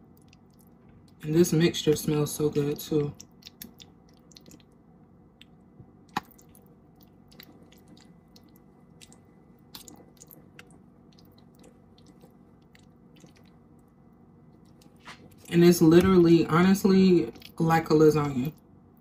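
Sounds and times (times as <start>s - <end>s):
wet squishing of spreading food: 0.0s - 18.8s.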